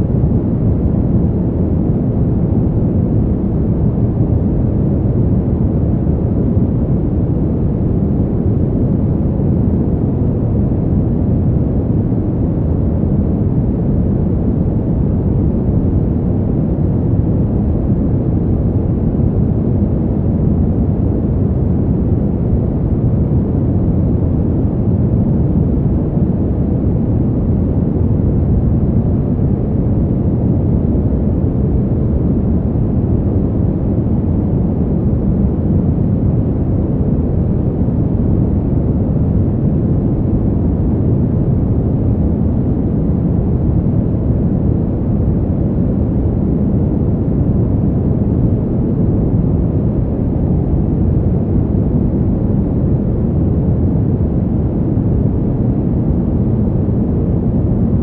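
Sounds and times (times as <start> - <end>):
cold wind rushing: 0.0 - 58.0.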